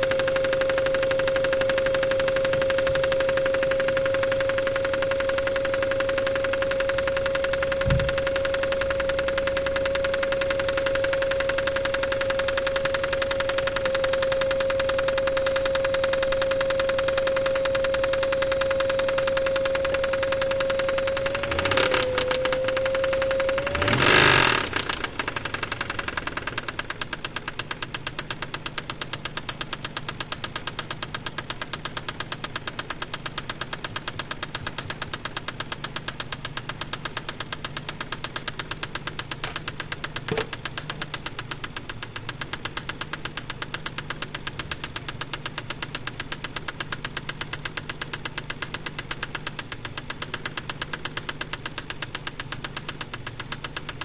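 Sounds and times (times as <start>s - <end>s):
engine running with knocking: 0.0s - 54.0s.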